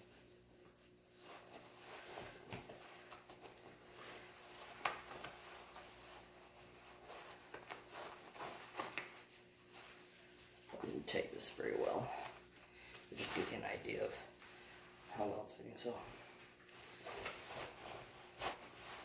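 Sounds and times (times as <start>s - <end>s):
cloth rustling: 0.0s - 19.0s.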